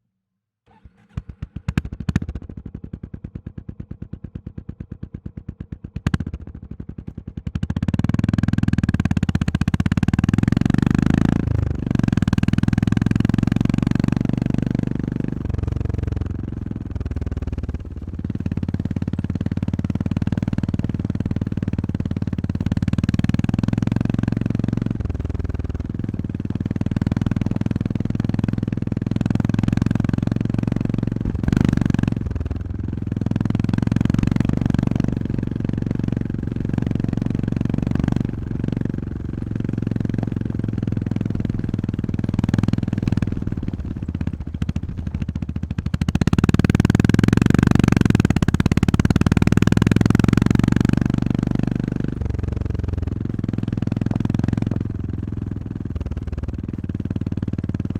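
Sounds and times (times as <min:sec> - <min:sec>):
motorcycle engine running: 0:00.7 - 0:57.9.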